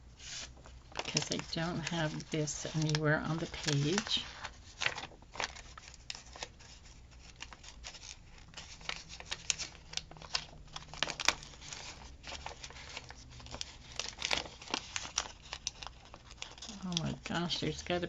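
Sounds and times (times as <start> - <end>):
paper stickers crinkling: 0.2 - 18.0.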